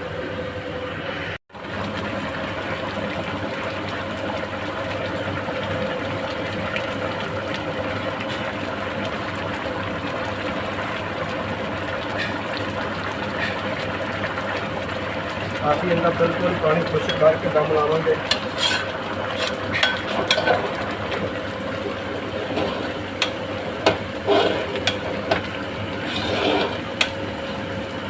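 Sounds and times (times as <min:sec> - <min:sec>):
water boiling and bubbling: 0:00.0 - 0:28.0.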